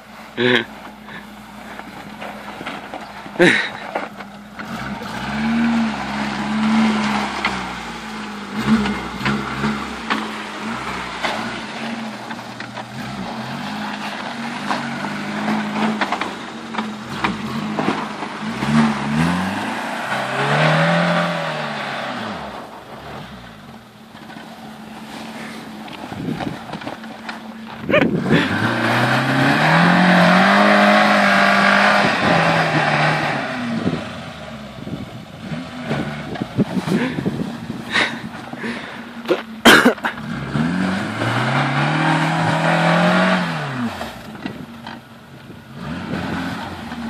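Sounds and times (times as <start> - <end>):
car engine revving: 0.0 - 47.0
tyre and gravel crackle: 0.1 - 47.0.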